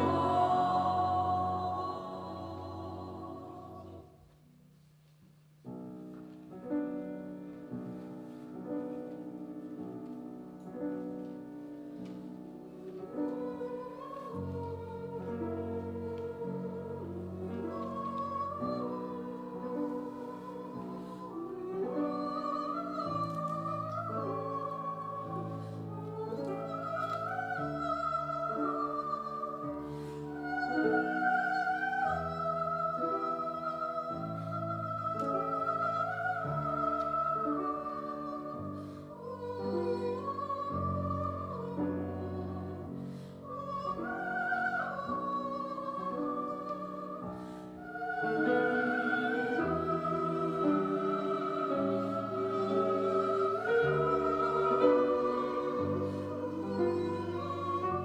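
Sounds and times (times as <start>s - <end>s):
piano accompaniment: 0.0s - 4.0s, 5.6s - 58.0s
choir singing: 0.0s - 4.2s, 10.6s - 58.0s.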